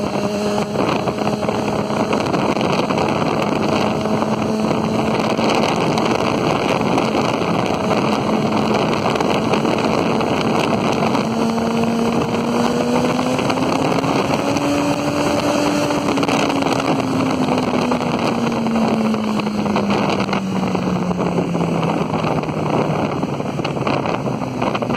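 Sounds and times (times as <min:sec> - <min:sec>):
engine hum: 0:00.0 - 0:24.9
vehicle running noise: 0:00.0 - 0:24.9
wind buffeting microphone: 0:00.0 - 0:24.9.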